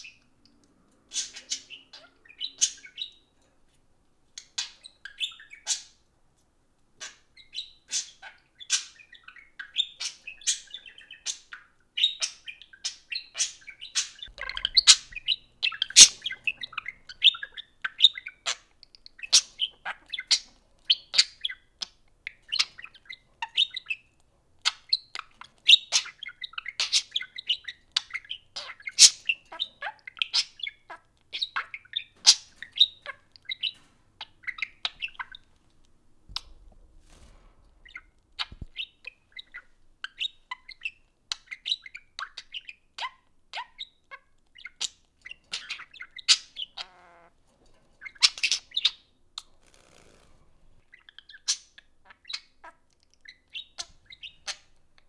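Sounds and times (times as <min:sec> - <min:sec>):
budgerigars chirping and warbling: 0:00.0 - 0:03.4, 0:04.3 - 0:06.1, 0:07.0 - 0:55.0.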